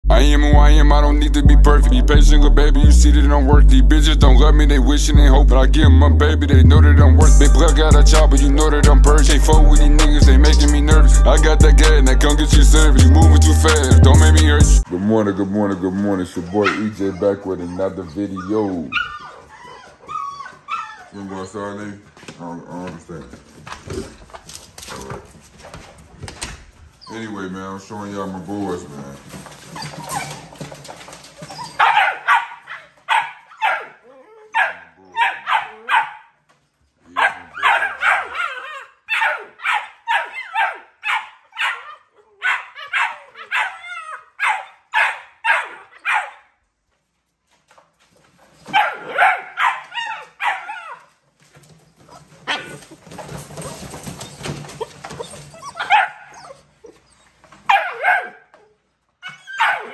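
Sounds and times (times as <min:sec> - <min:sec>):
puppies barking and yapping: 0:07.3 - 0:22.3, 0:23.4 - 0:46.6, 0:47.7 - 0:59.9.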